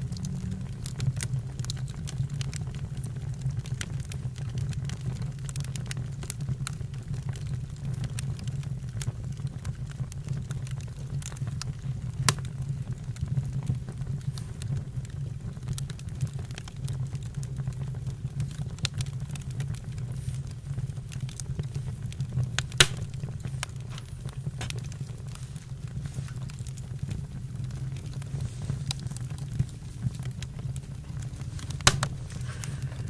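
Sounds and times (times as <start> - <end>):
campfire rumble: 0.0 - 33.0
fire crackling and popping: 0.0 - 33.0.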